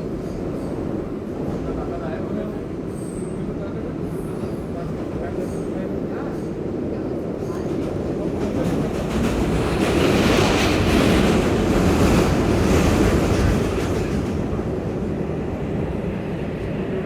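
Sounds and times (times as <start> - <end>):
subway train wheels roaring on rail: 0.0 - 17.0.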